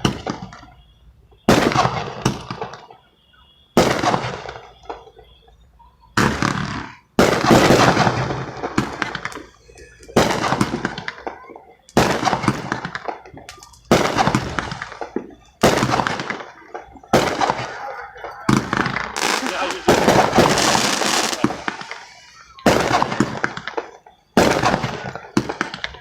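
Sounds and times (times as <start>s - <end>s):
fireworks bangs with crackling: 0.0s - 5.4s, 6.2s - 26.0s.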